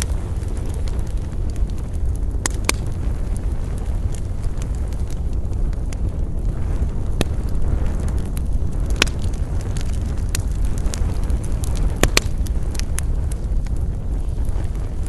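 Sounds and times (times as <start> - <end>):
campfire low rumble: 0.0 - 15.0
campfire pops and crackles: 0.0 - 15.0.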